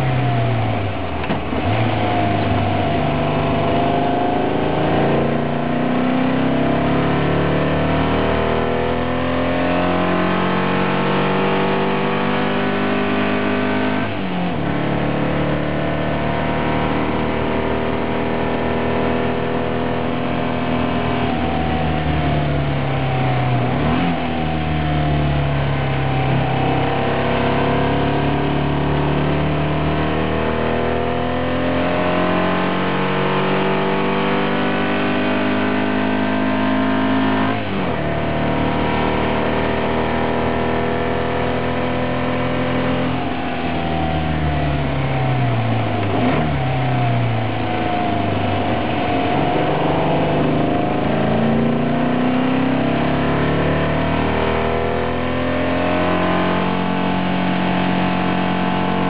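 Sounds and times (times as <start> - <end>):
racing car engine accelerating: 0.0 - 59.0.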